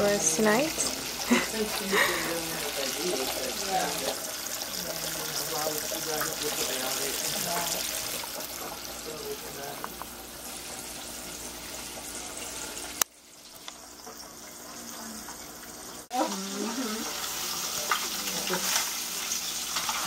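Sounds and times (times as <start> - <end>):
fish sizzling in deep fryer: 0.0 - 20.0.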